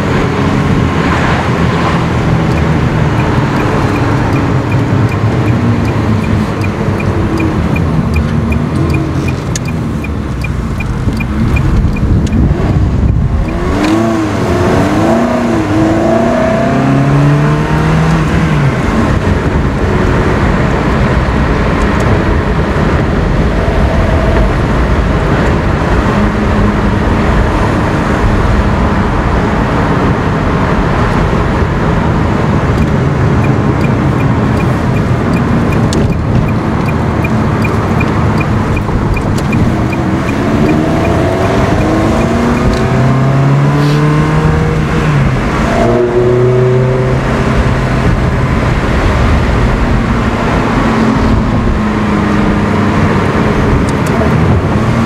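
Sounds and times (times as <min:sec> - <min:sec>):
car engine from inside cabin: 0:00.0 - 0:55.0
road noise: 0:00.0 - 0:55.0.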